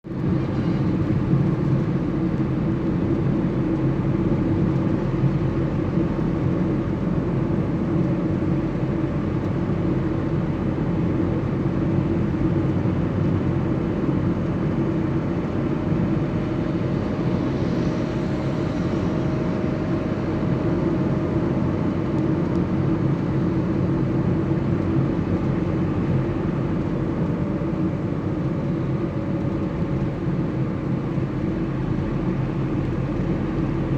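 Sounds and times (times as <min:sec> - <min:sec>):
vehicle engine drone: 0:00.0 - 0:33.9.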